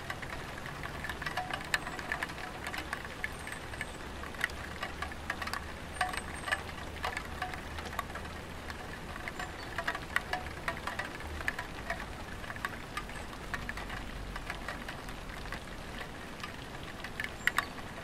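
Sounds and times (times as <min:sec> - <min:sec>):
raindrops tapping on tiled roof: 0:00.0 - 0:18.0.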